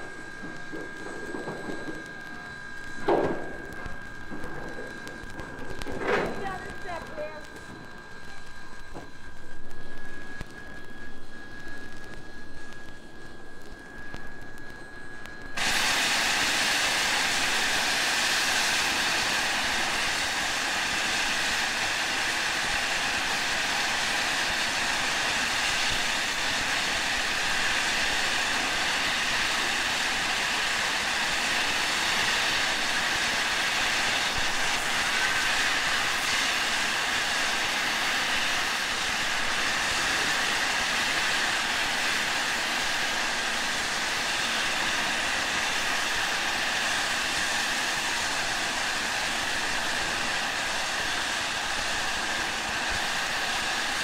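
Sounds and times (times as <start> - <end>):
rushing noise of steam train: 0.0 - 11.0, 15.6 - 54.0.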